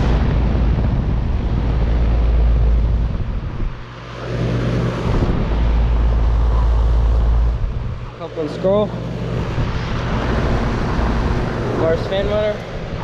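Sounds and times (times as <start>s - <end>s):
air conditioner running rough: 0.0s - 13.0s
heavy low rumble: 0.0s - 13.0s.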